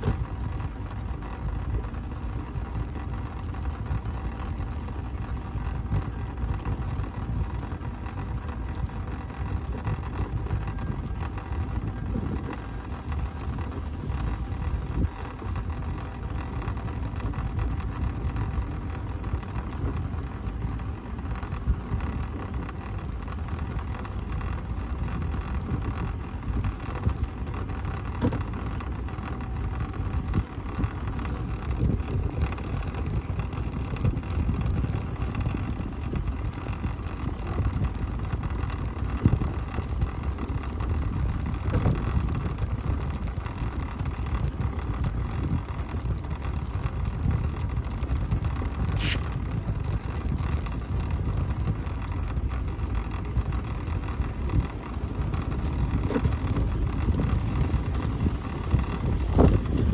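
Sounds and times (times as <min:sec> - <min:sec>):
faint motor whine: 0:00.0 - 0:59.9
mobility scooter rumbling: 0:00.0 - 0:59.9
small rattles: 0:00.0 - 0:59.9.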